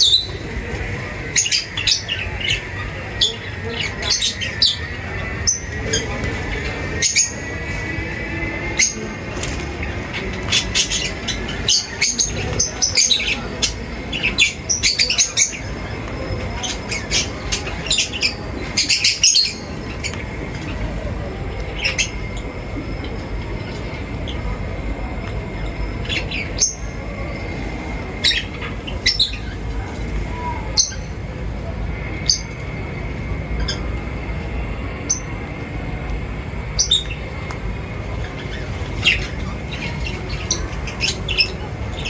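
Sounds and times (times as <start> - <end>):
birds chirping and squawking: 0.0 - 35.8, 36.4 - 42.0.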